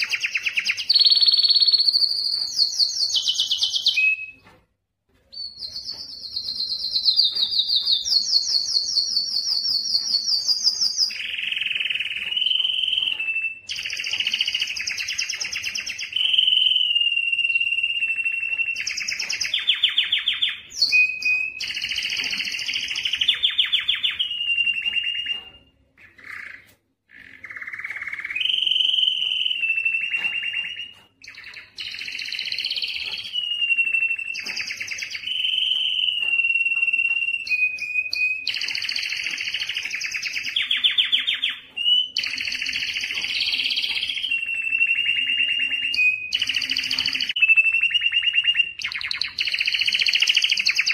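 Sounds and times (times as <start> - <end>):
canary singing trills and whistles: 0.0 - 4.6, 5.3 - 50.9.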